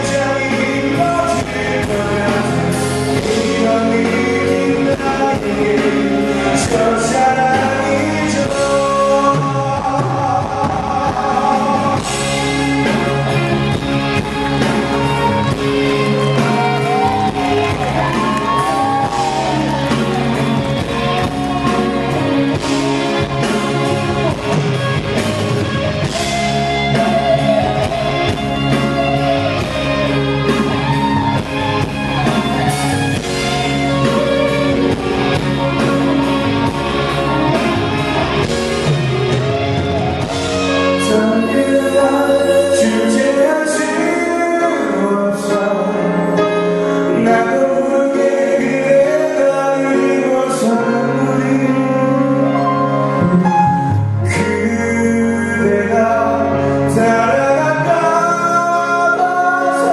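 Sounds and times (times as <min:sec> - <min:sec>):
deep bass: 0:00.0 - 0:46.1, 0:50.6 - 0:59.9
drums: 0:00.0 - 0:59.9
guitars: 0:00.0 - 0:59.9
man singing: 0:00.0 - 0:59.9.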